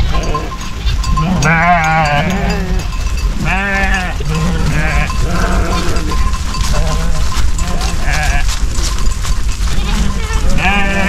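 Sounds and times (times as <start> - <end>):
sheep bleating: 0.0 - 8.6, 9.6 - 11.0.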